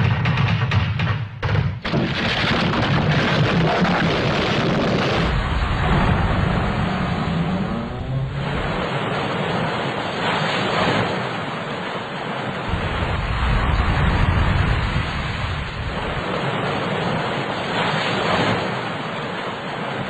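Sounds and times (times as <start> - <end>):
rough sea: 1.8 - 20.0
wind: 1.9 - 20.0.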